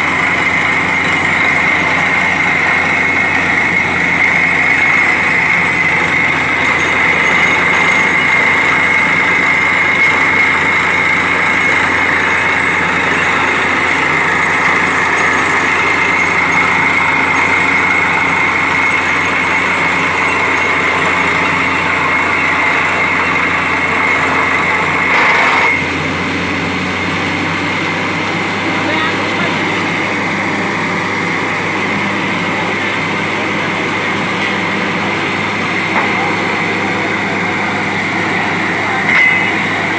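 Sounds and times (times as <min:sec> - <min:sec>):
drilling rig engine: 0:00.0 - 0:39.9
high whine: 0:00.0 - 0:39.9.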